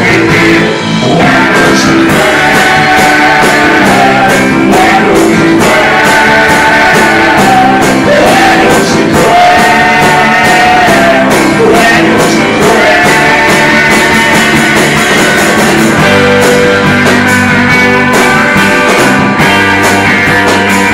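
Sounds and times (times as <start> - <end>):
man singing: 0.0 - 16.9
drum kit steady beat: 0.0 - 20.9
electric guitar: 0.0 - 20.9.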